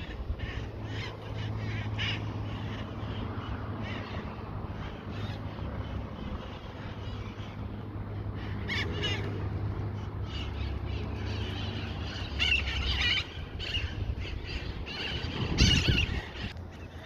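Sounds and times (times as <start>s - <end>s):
parakeets squawking: 0.0s - 17.0s.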